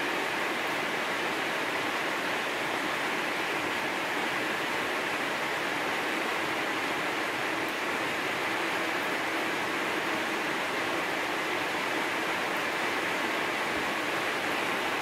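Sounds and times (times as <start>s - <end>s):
heavy rain on a steel roof: 0.0s - 15.0s.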